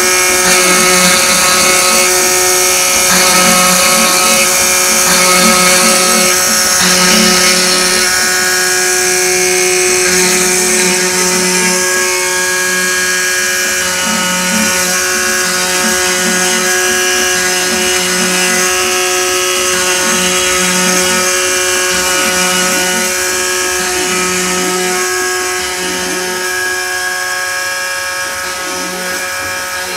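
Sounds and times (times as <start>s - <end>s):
spindle whine: 0.0s - 29.9s
stepper motors humming: 0.0s - 29.9s.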